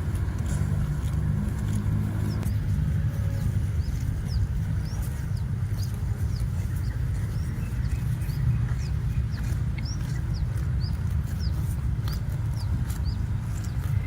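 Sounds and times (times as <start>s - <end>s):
low rumble: 0.0s - 14.0s
small birds chirping: 0.0s - 14.0s.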